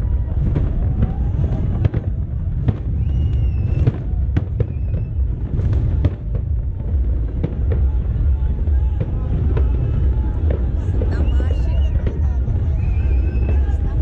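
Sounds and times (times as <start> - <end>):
fireworks bangs and crackles: 0.0 - 14.0
fireworks whistling: 0.0 - 14.0
low rumble: 0.0 - 14.0.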